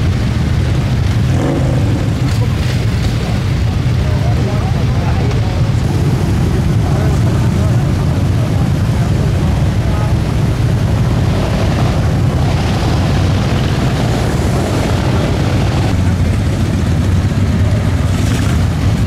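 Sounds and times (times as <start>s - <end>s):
motorcycle engines rumbling: 0.0s - 19.0s
faint voices: 1.2s - 19.0s.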